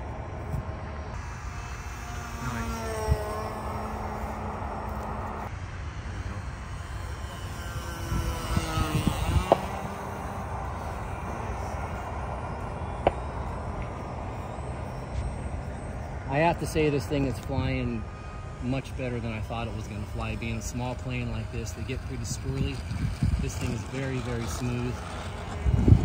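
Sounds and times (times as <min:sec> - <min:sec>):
model plane engine buzzing: 0:00.0 - 0:26.0.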